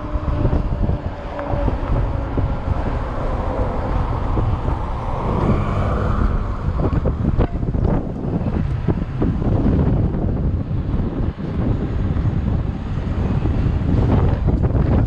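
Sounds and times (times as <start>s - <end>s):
bike rolling noise: 0.0s - 15.0s
wind buffeting microphone: 0.0s - 15.0s.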